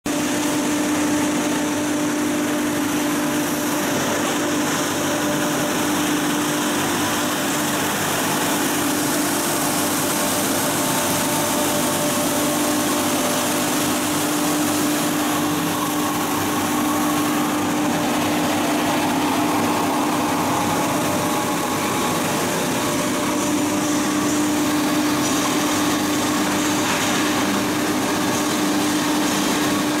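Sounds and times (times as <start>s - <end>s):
hammer mill motor droning: 0.1s - 30.0s.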